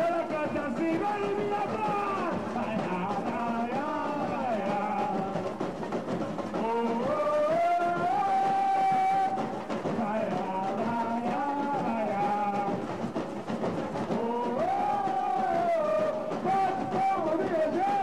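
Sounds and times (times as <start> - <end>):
lead singer singing: 0.0 - 5.7, 6.5 - 13.0, 14.1 - 18.0
metal shakers: 0.0 - 18.0
samba drums: 0.0 - 18.0.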